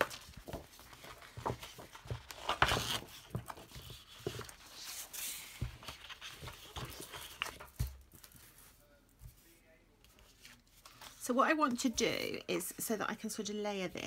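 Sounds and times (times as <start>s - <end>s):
card paper sheets handled: 0.0s - 11.8s.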